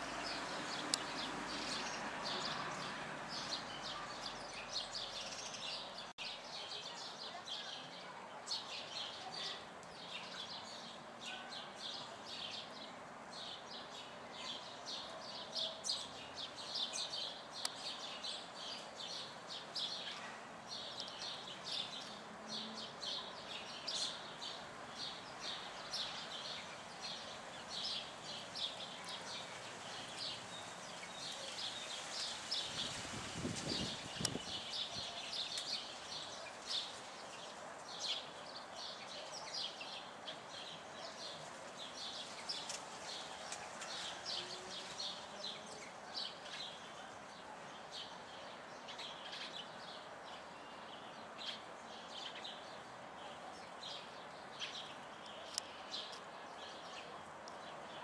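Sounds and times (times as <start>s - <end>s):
small birds chirping: 0.0s - 58.0s
steady outdoor hiss: 0.0s - 58.0s.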